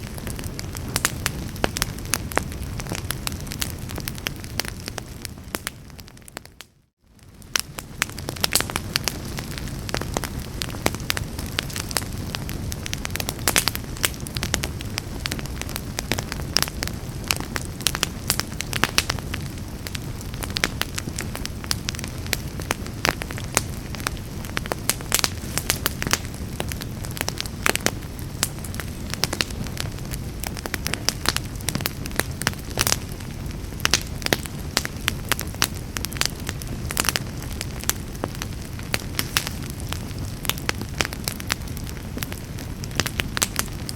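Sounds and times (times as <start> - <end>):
fire pops and snaps: 0.0 - 43.9
low rumble of flames: 0.0 - 43.9.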